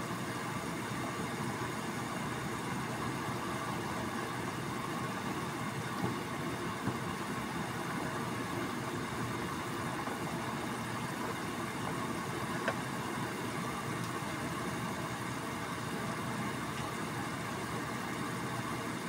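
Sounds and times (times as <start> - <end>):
water boiling in a skillet: 0.0 - 19.0.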